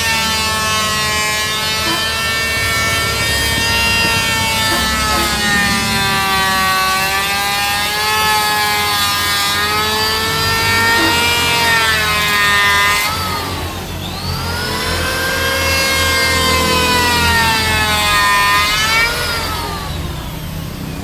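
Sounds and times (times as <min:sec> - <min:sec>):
power tool motor whine: 0:00.0 - 0:21.0.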